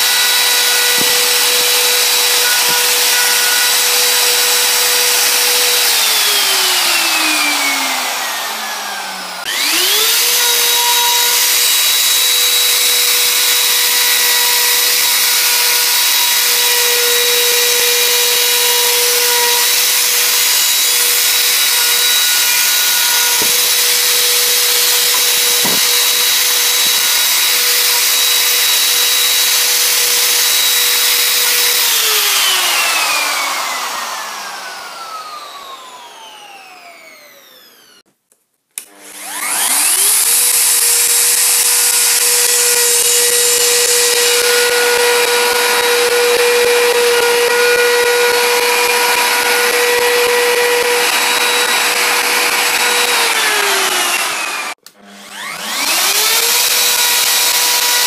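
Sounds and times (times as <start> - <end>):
electric router whining: 0.0 - 38.0, 38.8 - 58.0.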